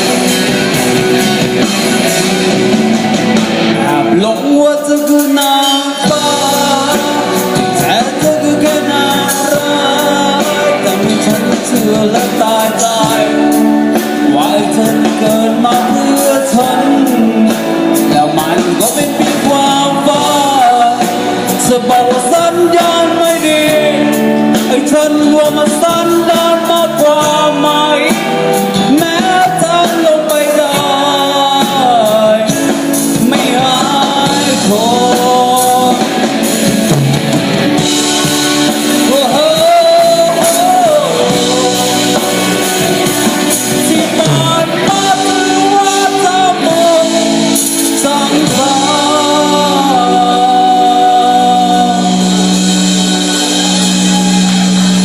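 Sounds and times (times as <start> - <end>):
band playing song: 0.0 - 55.0.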